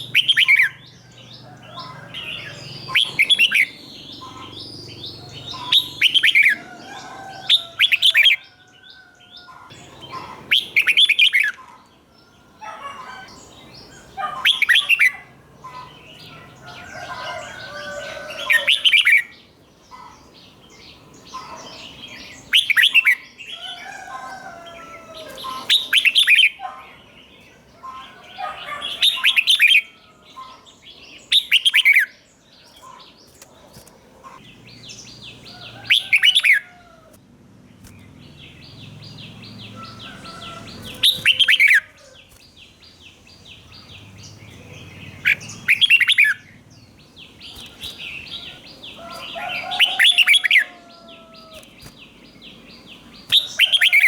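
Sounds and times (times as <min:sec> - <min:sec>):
bird chirps and twitters: 0:00.0 - 0:36.7, 0:37.7 - 0:54.0
bird singing bright phrases: 0:00.0 - 0:36.9, 0:37.6 - 0:54.0.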